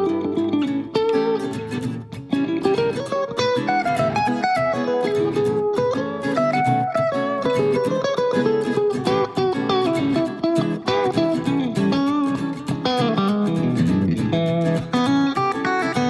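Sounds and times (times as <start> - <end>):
plucked guitar background music: 0.0 - 16.0.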